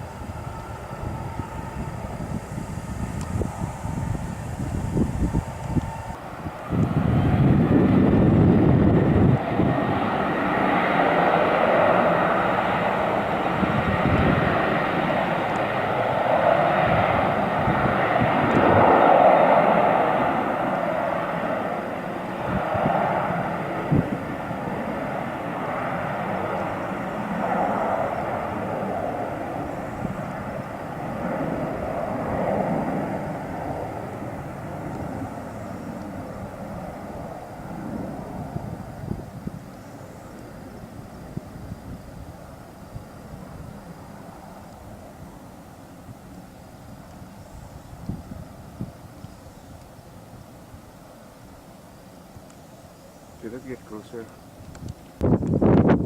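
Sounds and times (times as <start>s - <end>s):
wind buffeting microphone: 0.0s - 51.0s, 53.5s - 56.0s
airplane engines rushing: 0.0s - 56.0s.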